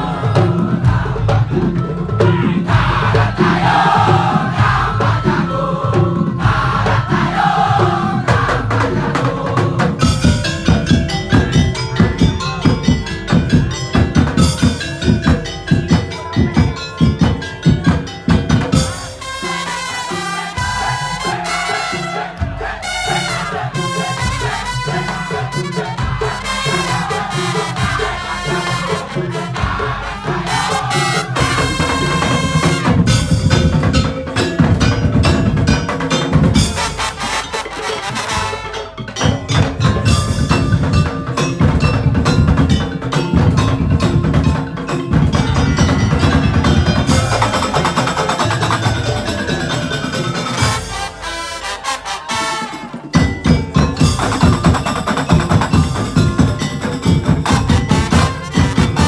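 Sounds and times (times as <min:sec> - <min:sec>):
low drums: 0:00.0 - 0:21.4, 0:22.1 - 0:37.7, 0:38.9 - 0:51.4, 0:53.2 - 0:59.0
tuned mallet percussion: 0:00.0 - 0:51.6, 0:52.4 - 0:59.0
wood-block strikes: 0:00.0 - 0:59.0.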